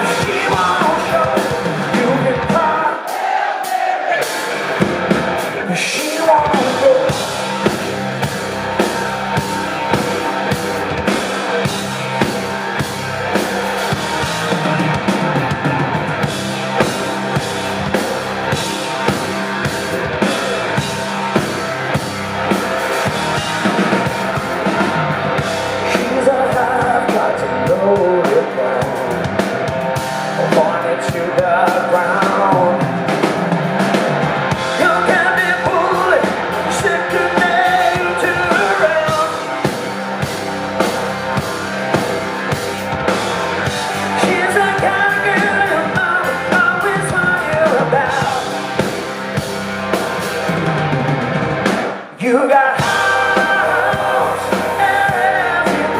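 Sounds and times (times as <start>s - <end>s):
electric guitar: 0.0s - 2.9s, 4.2s - 55.9s
drum beat: 0.0s - 52.0s
bass guitar: 0.0s - 55.9s.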